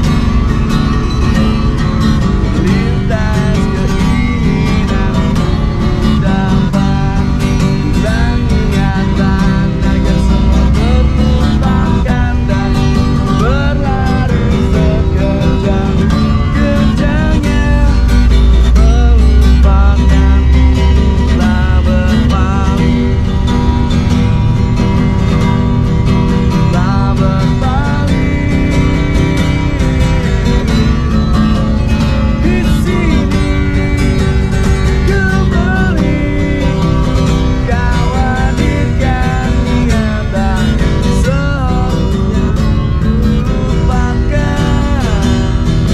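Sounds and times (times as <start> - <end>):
acoustic guitar strumming: 0.0 - 45.9
man singing loudly: 2.5 - 23.2, 26.6 - 31.0, 32.4 - 42.6, 43.4 - 45.9.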